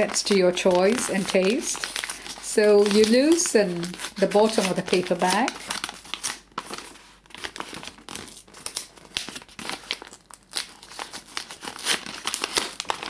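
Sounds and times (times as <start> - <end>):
paper bag crinkling: 0.0 - 13.0.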